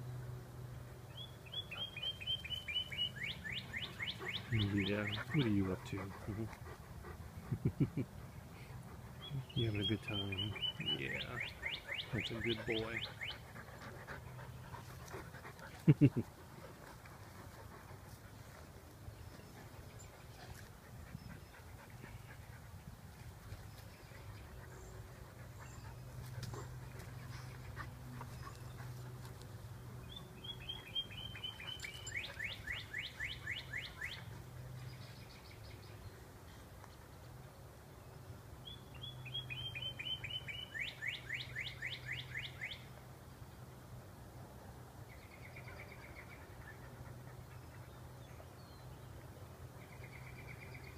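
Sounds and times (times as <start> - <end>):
songbird singing: 1.0 - 37.4, 38.0 - 43.6, 45.0 - 50.9.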